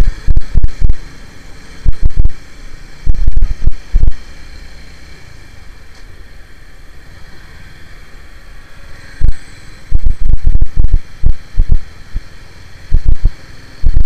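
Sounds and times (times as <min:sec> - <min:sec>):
motorcycle engine rumble: 0:00.0 - 0:14.0.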